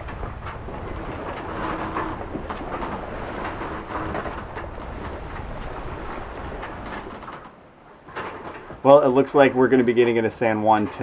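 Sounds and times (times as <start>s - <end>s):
boat creaking: 0.0s - 11.0s
boat knocking: 0.0s - 11.0s
water rushing along hull: 0.0s - 11.0s.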